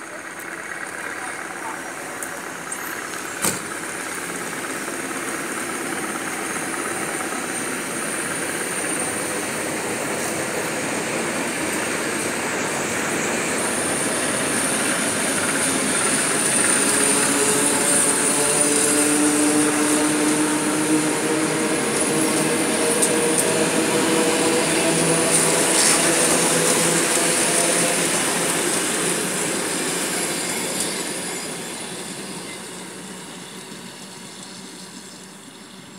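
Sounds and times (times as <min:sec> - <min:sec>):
electric train passing: 0:00.0 - 0:35.9.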